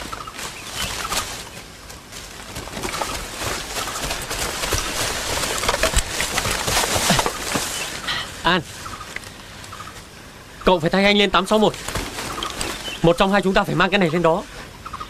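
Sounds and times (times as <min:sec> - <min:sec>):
crunching footsteps in undergrowth: 0:00.0 - 0:10.1, 0:11.0 - 0:14.6
leaves and branches brushing: 0:00.0 - 0:14.7.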